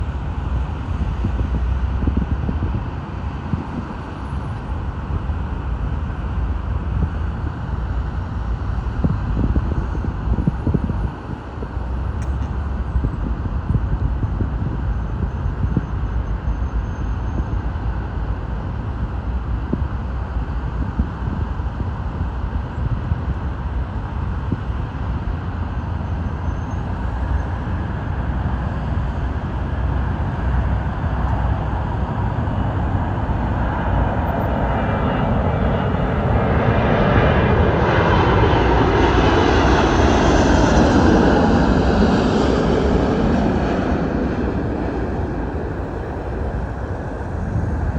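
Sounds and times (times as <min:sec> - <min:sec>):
jet engine noise and rushing air: 0:00.0 - 0:47.9.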